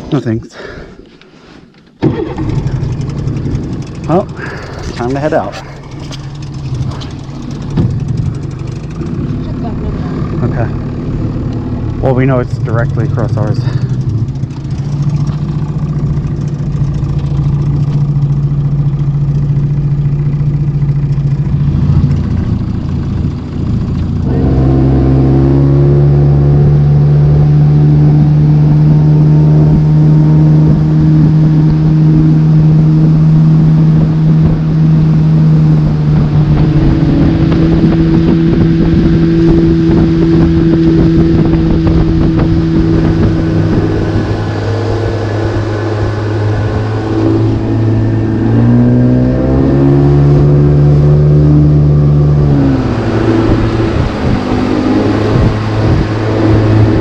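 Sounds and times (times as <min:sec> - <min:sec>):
motorboat engine: 0:00.0 - 0:57.0.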